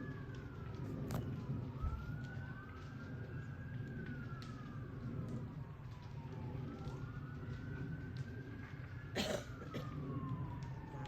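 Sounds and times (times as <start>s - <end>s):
emergency vehicle sirens wailing: 0.0s - 11.0s.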